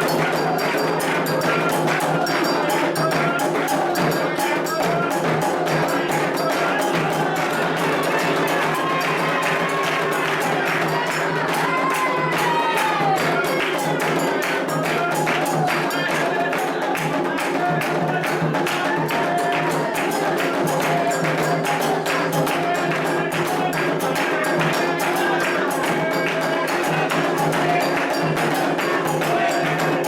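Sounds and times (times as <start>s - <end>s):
metal bell: 0.0s - 17.8s, 18.4s - 30.0s
hand drums: 0.0s - 30.0s
voices chanting: 0.0s - 30.0s.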